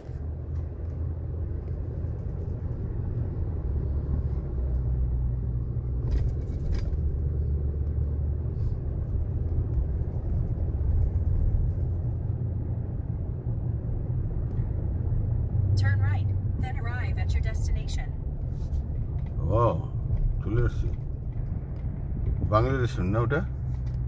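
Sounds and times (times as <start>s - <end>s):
car cabin engine and tyre rumble: 0.0s - 24.0s.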